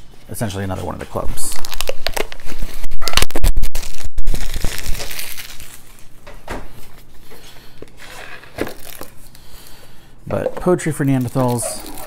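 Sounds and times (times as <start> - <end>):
wrapping rustling and crinkling: 0.0 - 9.9, 10.7 - 12.0.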